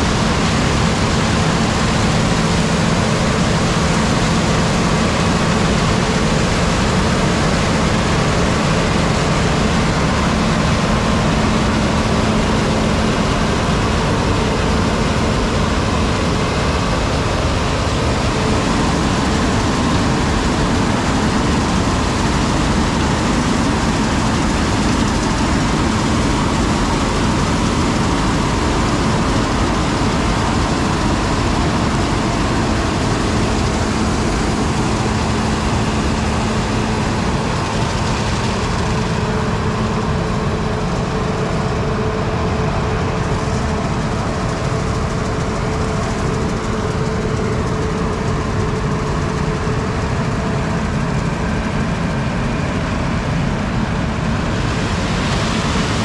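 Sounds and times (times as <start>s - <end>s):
harvest machinery running: 0.0s - 56.0s.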